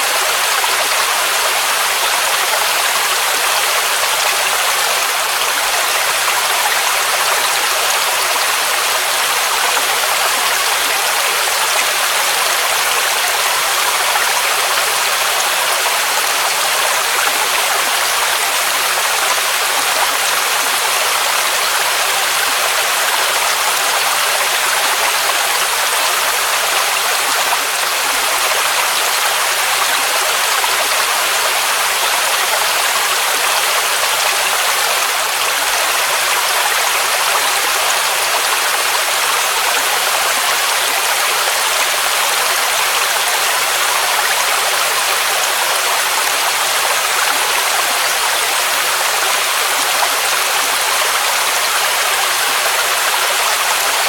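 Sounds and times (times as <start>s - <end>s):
waterfall rushing water: 0.0s - 54.0s.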